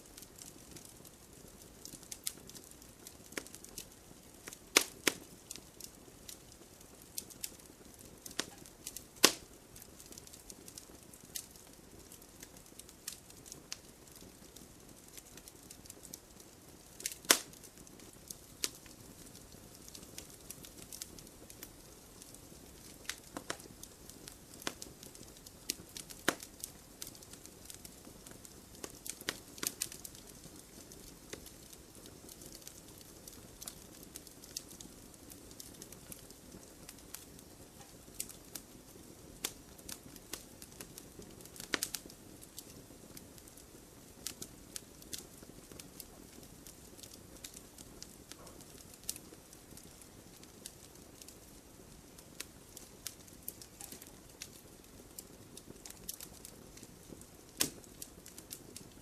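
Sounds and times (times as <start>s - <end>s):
campfire wood crackling and popping: 0.0s - 59.0s
low steady fire hiss: 0.0s - 59.0s.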